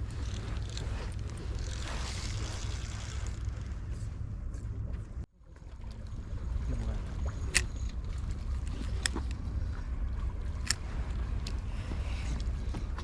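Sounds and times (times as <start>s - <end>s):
water lapping: 0.0s - 13.0s
wind: 0.0s - 13.0s.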